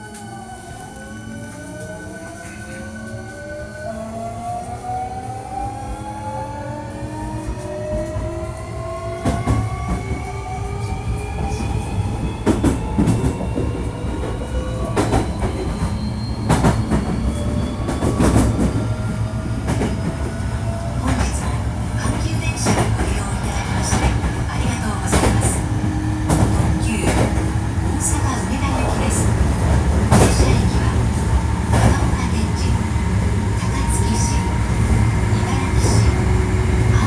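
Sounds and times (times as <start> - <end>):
train running rumble: 4.8 - 37.0.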